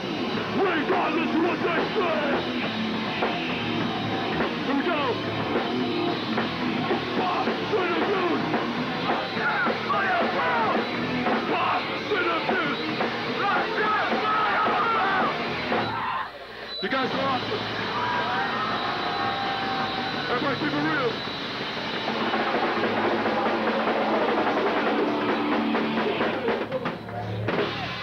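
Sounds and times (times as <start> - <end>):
electric guitar: 0.0 - 16.0, 17.0 - 28.0
drum kit: 0.0 - 16.1, 16.8 - 28.0
punk band playing live: 0.0 - 16.1, 16.8 - 28.0.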